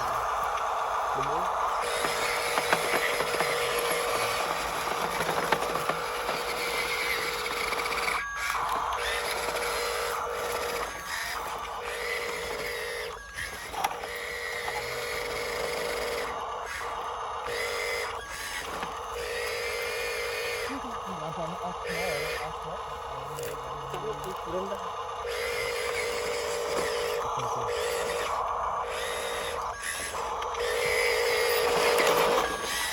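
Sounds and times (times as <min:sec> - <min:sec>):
electric toy truck motor whining: 0:00.0 - 0:32.9.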